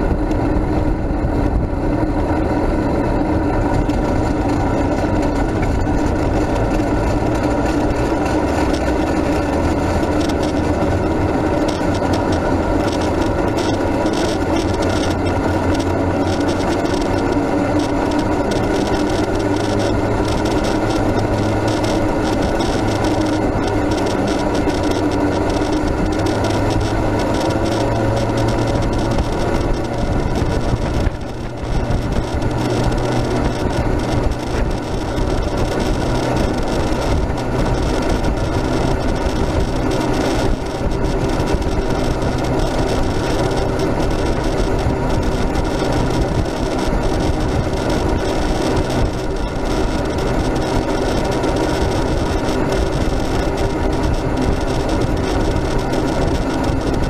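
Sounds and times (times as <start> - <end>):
tyres rumbling on pavement: 0.0 - 57.0
rapid rattles: 0.1 - 57.0.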